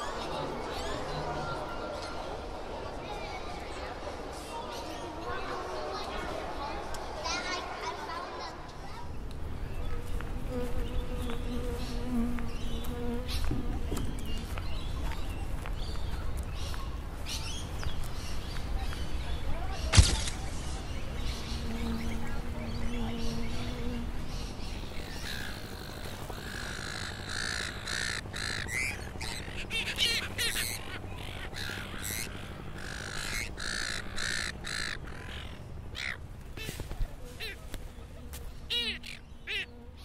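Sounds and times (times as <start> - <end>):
birds calling and chirping: 0.0 - 40.0.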